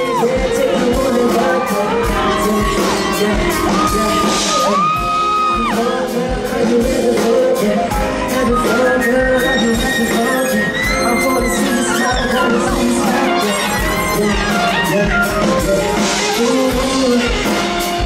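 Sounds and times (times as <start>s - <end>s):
backing track with steady beat: 0.0s - 18.0s
man singing into microphone: 0.0s - 18.0s.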